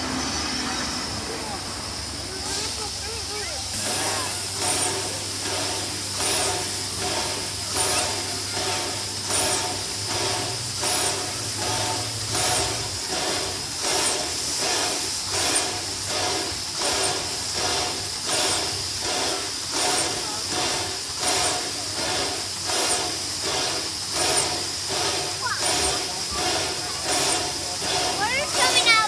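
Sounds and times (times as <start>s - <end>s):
steam hiss: 0.0s - 29.0s
steam locomotive chuffing: 0.0s - 29.0s.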